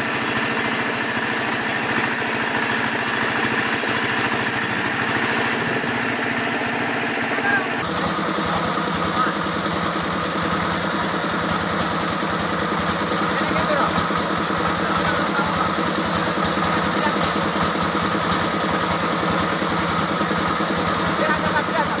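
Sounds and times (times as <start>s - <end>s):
log-sawing machine engine running: 0.0s - 22.0s.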